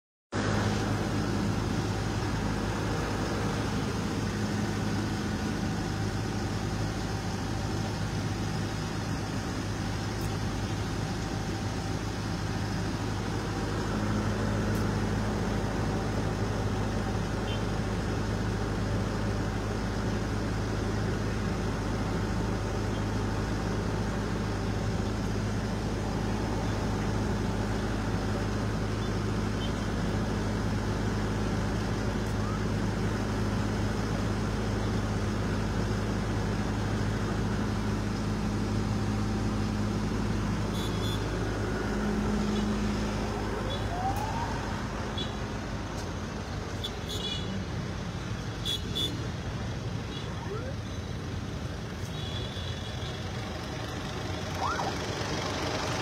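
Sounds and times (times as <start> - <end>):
heavy diesel engines droning: 0.3 - 56.0.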